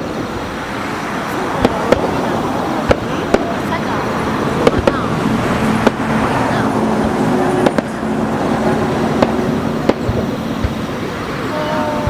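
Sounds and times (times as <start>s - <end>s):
firework shells bursting: 0.0s - 12.0s
steady background din: 0.0s - 12.0s.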